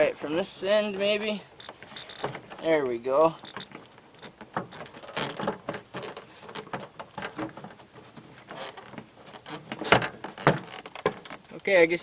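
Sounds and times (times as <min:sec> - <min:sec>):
light clicks rustles and knocks: 0:00.8 - 0:11.8.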